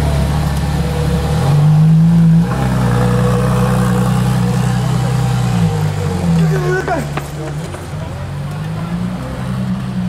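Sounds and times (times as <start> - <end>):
car engine running loudly: 0.0 - 10.0.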